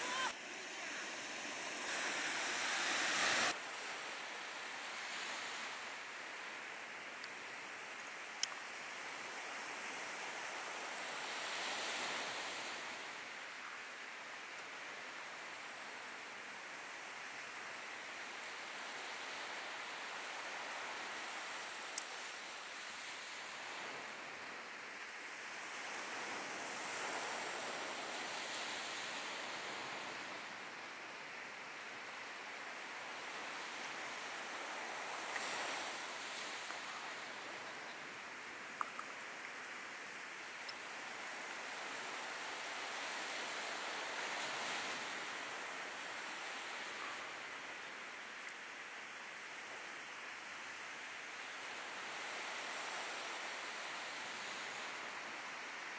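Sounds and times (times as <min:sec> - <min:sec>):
surf waves washing onto beach: 0:00.0 - 0:55.9.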